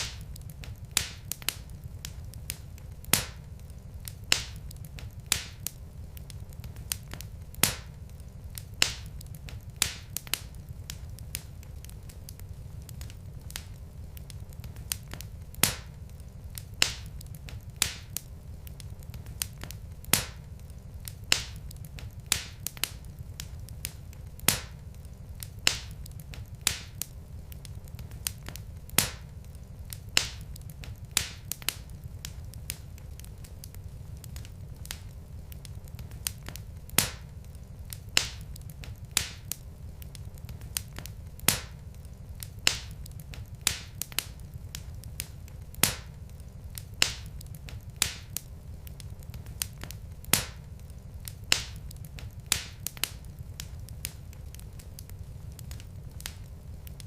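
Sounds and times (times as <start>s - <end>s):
log fire crackling and popping: 0.0s - 57.0s
low steady fire rumble: 0.0s - 57.0s.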